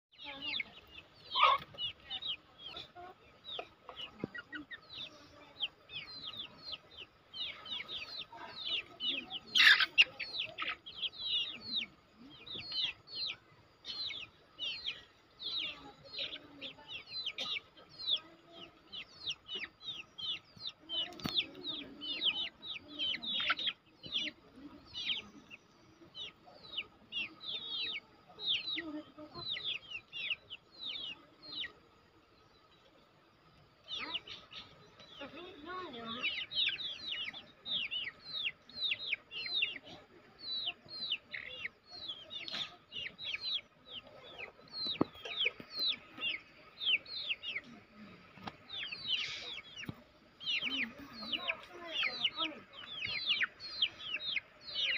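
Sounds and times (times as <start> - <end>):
chickens chirping: 0.1 - 54.9.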